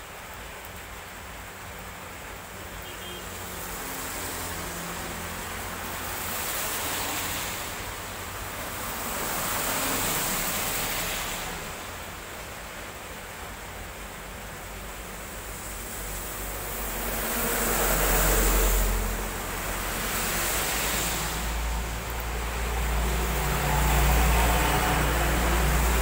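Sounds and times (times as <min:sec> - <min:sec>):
tyres hissing on wet road: 0:00.0 - 0:26.0.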